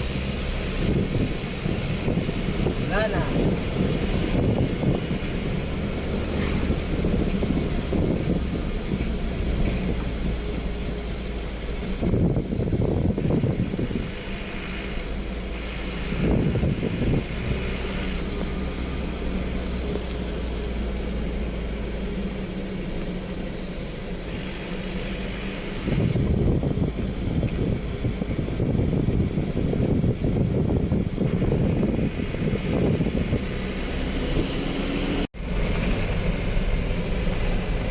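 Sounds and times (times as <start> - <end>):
road noise: 0.0 - 37.9
vehicle engine running: 0.0 - 37.9.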